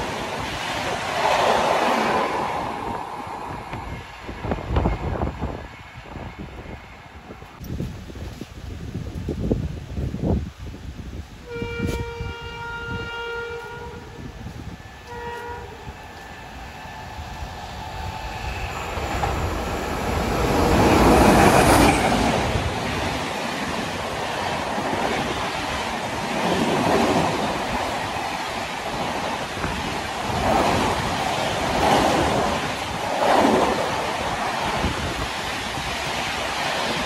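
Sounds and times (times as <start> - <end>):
passenger train passing at speed: 0.0 - 37.0.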